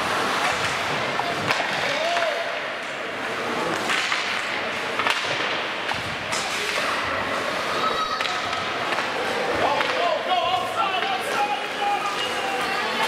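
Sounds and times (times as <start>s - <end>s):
arena noise: 0.0s - 13.0s
hockey sticks cracking on puck: 0.0s - 13.0s
skates on ice: 0.0s - 13.0s.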